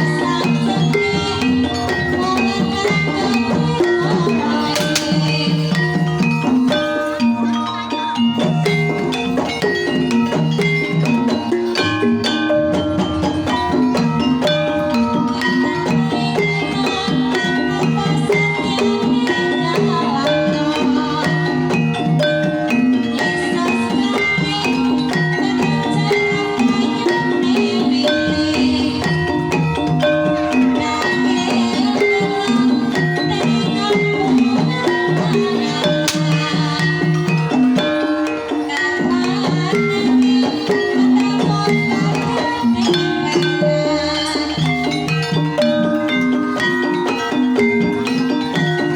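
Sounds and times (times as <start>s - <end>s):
gamelan music: 0.0s - 48.9s.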